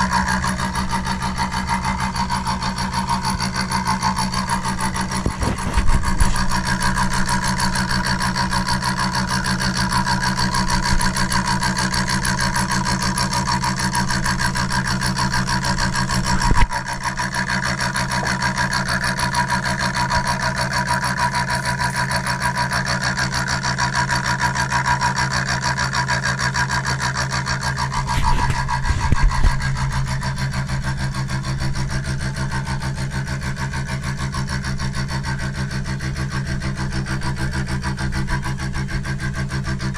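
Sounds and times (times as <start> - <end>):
power tool motor cutting: 0.0 - 39.9.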